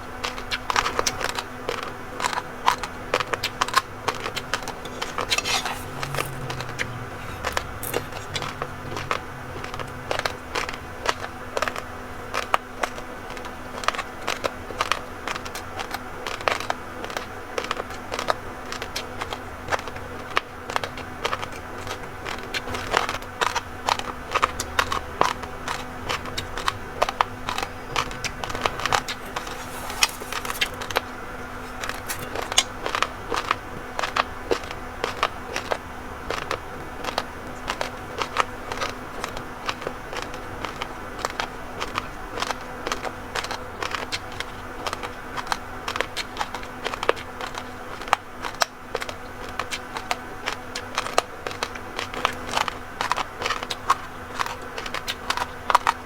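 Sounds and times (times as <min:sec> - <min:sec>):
rice crunching and chewing: 0:00.0 - 0:56.0.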